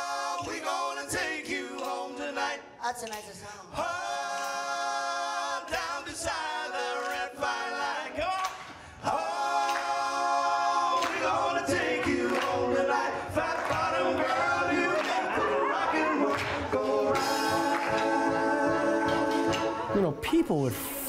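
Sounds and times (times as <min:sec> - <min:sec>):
men singing in chorus: 0:00.0 - 0:02.6, 0:03.3 - 0:19.9.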